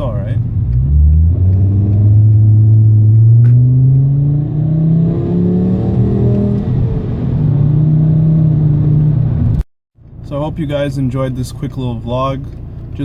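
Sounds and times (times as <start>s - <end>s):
car exhaust drone and rumble: 0.0s - 13.0s.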